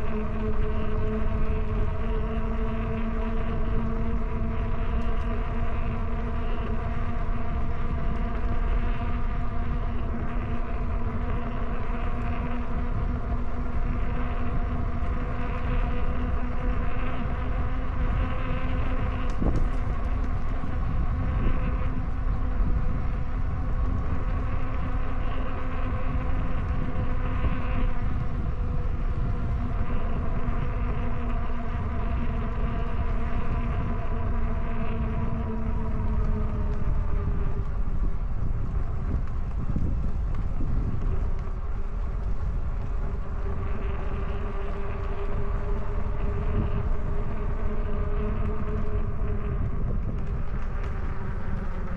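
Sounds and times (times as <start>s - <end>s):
electric bike motor whining: 0.0s - 51.9s
wind on microphone: 0.0s - 51.9s.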